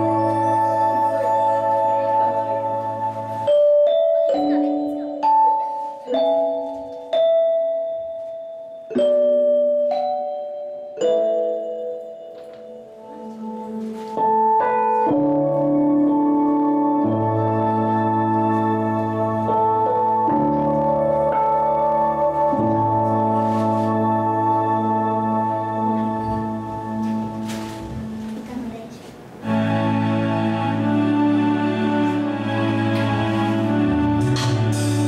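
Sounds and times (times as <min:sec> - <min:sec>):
held chords with bass line: 0:00.0 - 0:05.6, 0:08.7 - 0:28.3, 0:29.4 - 0:35.0
soft piano chords: 0:00.0 - 0:35.0.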